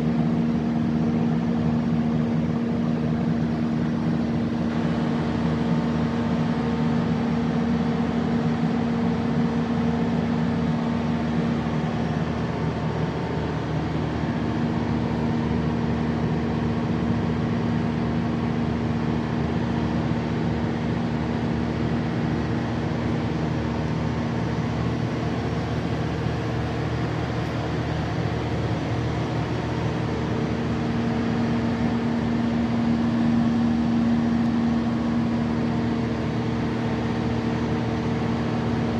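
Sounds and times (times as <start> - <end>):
diesel generator running: 0.0 - 38.9.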